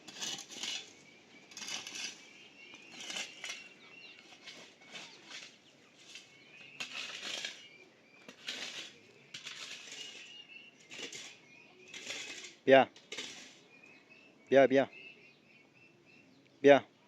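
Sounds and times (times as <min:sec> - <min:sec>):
scraping or rustling bursts: 0:00.0 - 0:13.8
small birds chirping: 0:00.0 - 0:17.0.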